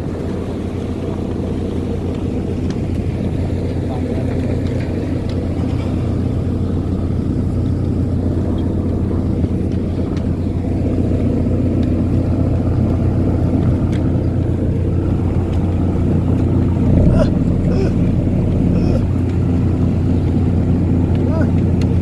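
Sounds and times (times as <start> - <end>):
boat engine drone: 0.0 - 22.0.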